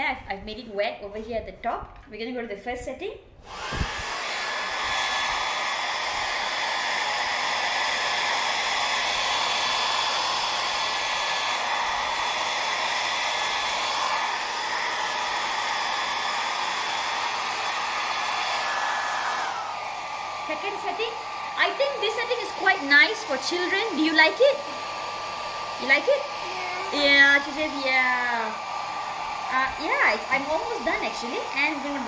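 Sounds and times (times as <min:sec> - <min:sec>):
hair dryer running: 0:03.4 - 0:32.0.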